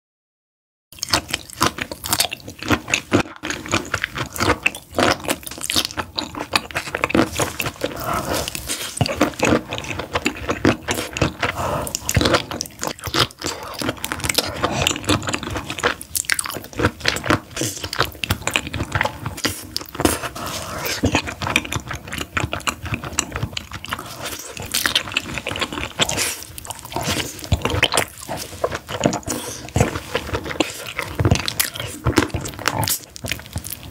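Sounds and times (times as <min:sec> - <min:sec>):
person biting and chewing food: 0:01.0 - 0:33.9.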